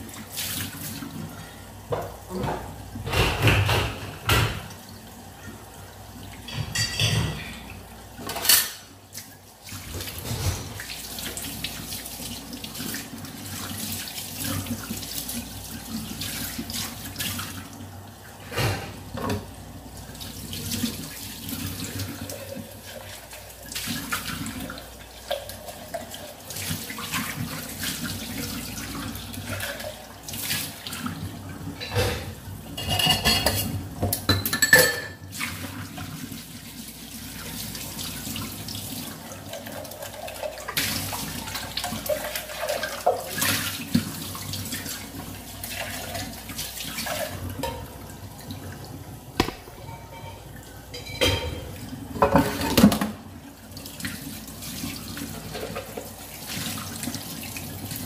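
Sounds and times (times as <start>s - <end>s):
tap water running into sink: 0.0s - 58.0s.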